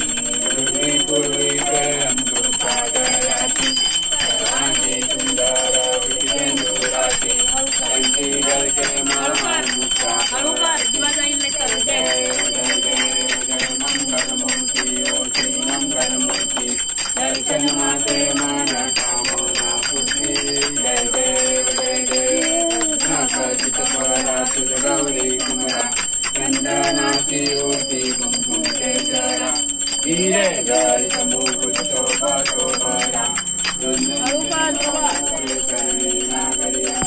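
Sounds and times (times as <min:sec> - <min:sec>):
bell ringing rapidly: 0:00.0 - 0:37.0
devotional singing: 0:00.0 - 0:37.0.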